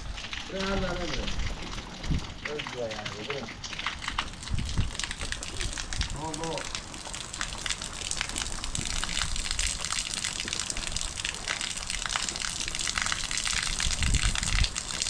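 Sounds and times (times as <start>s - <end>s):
crackles and splashes: 0.0s - 15.0s
water rushing: 0.0s - 15.0s.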